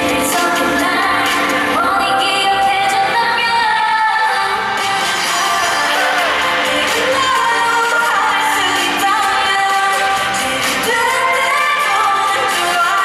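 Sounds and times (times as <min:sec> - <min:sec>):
female vocals singing: 0:00.0 - 0:13.0
loud backing track: 0:00.0 - 0:13.0.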